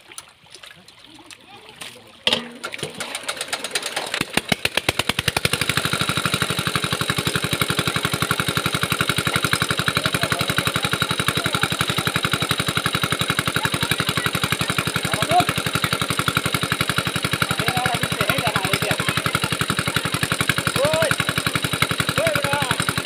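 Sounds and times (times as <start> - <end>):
small engine starting and running: 2.3 - 23.0.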